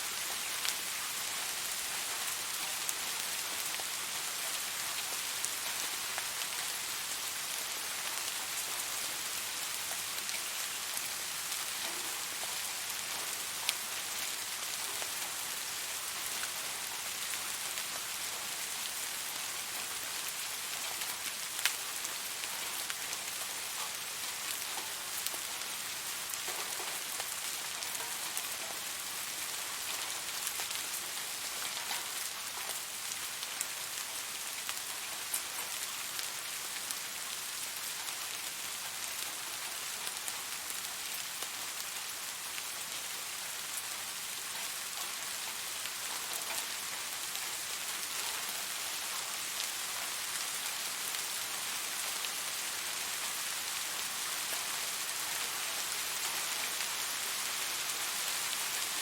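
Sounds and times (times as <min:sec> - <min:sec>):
steady rain on a surface: 0:00.0 - 0:59.0.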